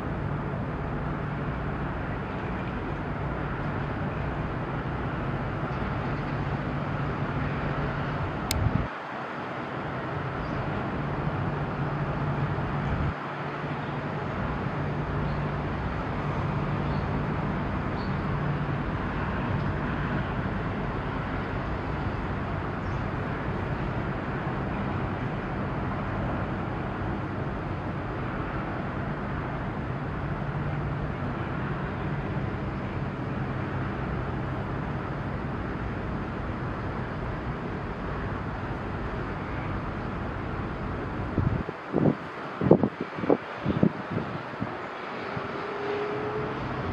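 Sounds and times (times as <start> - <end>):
low engine hum: 0.0 - 46.9
outdoor noise: 0.0 - 46.9.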